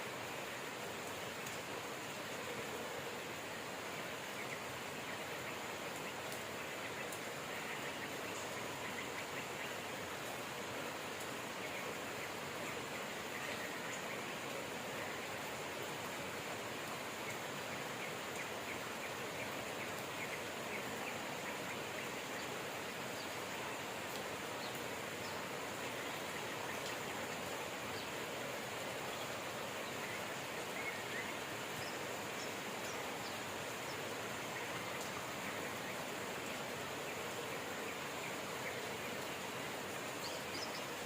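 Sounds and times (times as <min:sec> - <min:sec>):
rain falling: 0:00.0 - 0:41.0
small birds chirping: 0:03.3 - 0:41.0.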